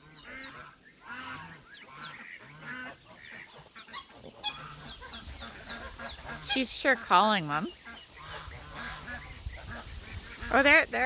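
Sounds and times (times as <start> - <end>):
duck low calls: 0.0 - 11.0
ducklings peeping: 0.0 - 11.0.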